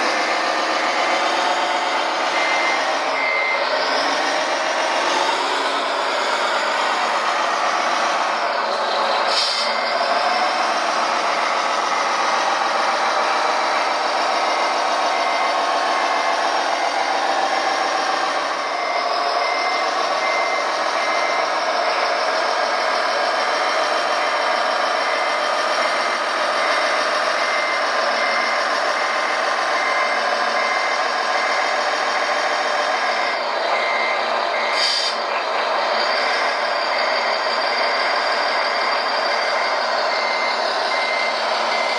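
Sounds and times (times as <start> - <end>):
reversing beeper: 0.0 - 41.9.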